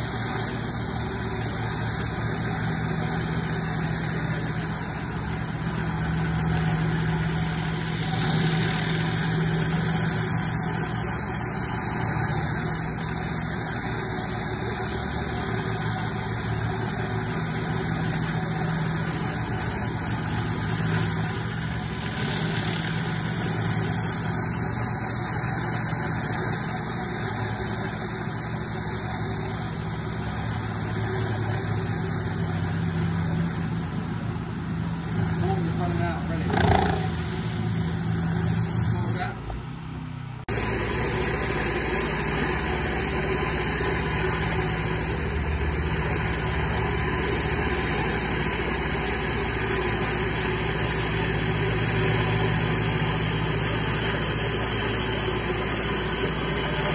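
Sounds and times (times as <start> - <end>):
water jets hissing on paving: 0.0 - 39.3, 40.5 - 56.9
pressure washer engine hum: 0.0 - 56.9.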